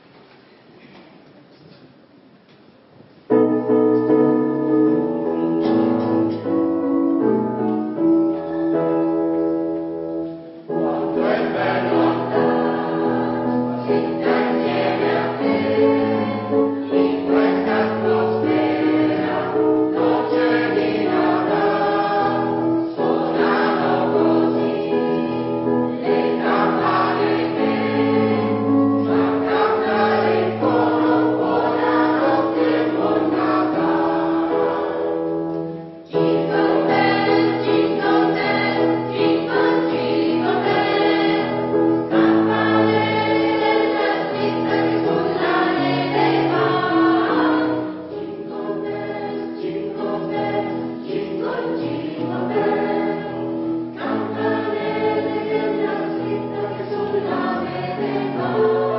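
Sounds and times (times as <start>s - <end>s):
choir singing: 10.7s - 58.9s.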